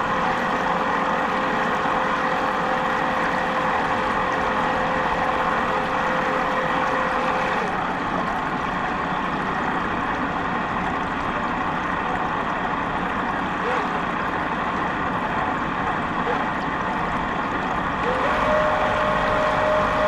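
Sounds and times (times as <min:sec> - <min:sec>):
boat engine rushing on water: 0:00.0 - 0:20.0.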